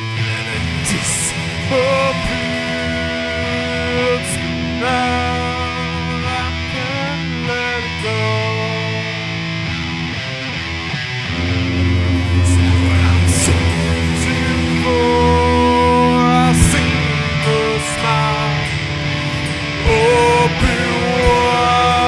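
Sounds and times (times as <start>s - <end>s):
electric guitar lead notes bending: 0.0s - 22.0s
hard rock band playing live: 0.0s - 22.0s.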